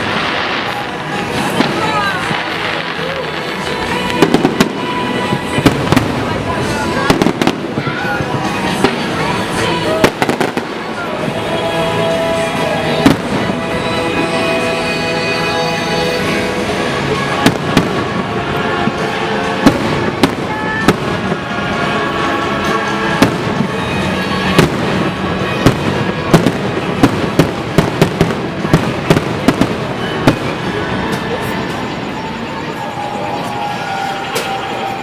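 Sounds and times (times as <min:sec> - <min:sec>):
fireworks bangs: 0:00.0 - 0:35.0
music soundtrack: 0:00.0 - 0:35.0.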